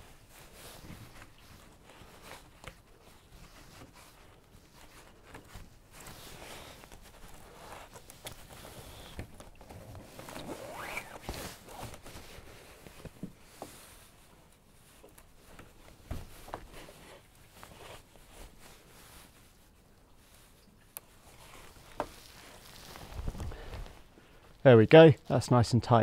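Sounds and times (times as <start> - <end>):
cord rasping and rubbing: 0.0 - 19.6, 21.0 - 24.6.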